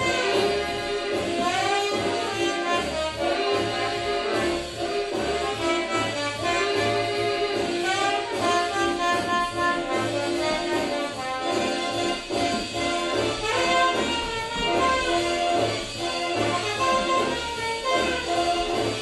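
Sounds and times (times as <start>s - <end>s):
pulsing bass line: 0.0s - 19.0s
swing jazz with horns: 0.0s - 19.0s.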